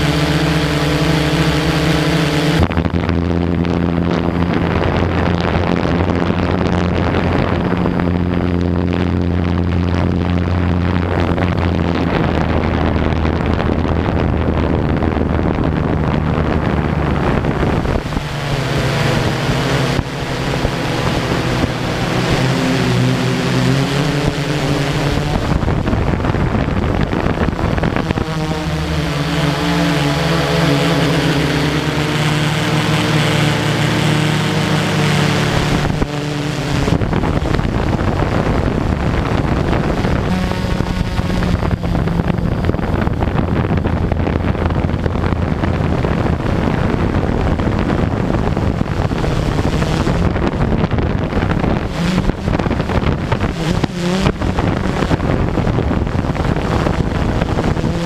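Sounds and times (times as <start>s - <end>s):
drone propellers buzzing: 0.0s - 58.0s
wind on microphone: 0.0s - 58.0s.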